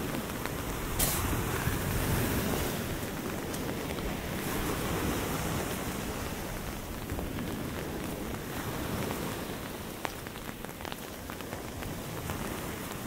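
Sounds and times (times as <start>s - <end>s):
surf washing onto beach: 0.0s - 13.0s
wind: 0.0s - 13.0s.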